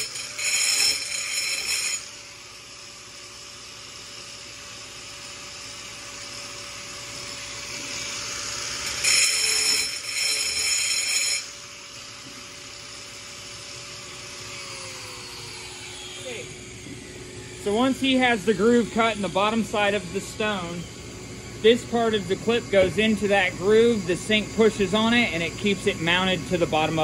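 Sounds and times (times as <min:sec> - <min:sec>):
grinder cutting stone: 0:00.0 - 0:02.4, 0:05.0 - 0:16.9, 0:17.6 - 0:27.0
angle grinder whining: 0:00.0 - 0:27.0.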